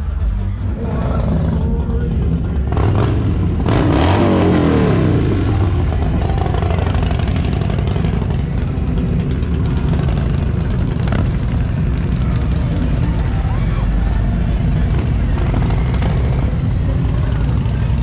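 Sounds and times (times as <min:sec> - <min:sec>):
vehicle engine revving and rumbling: 0:00.0 - 0:18.0.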